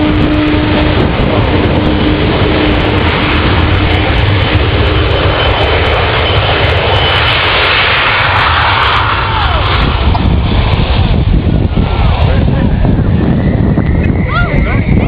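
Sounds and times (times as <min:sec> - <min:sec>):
aircraft engine roar: 0:00.0 - 0:15.0.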